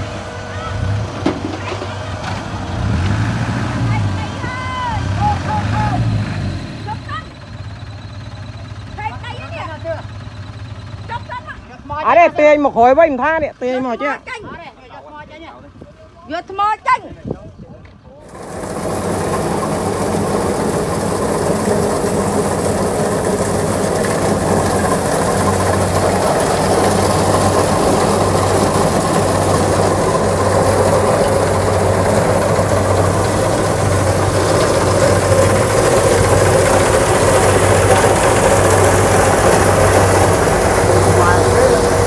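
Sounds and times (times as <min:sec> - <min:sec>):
combine harvester running: 0:00.0 - 0:14.4, 0:18.1 - 0:42.0.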